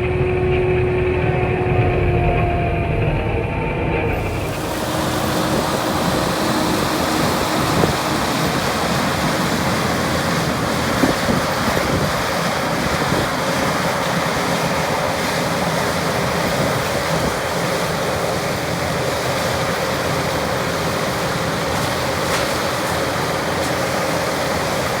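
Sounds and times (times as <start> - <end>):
brush cutter machine drone: 4.0 - 25.0
faint steady whine: 4.1 - 25.0.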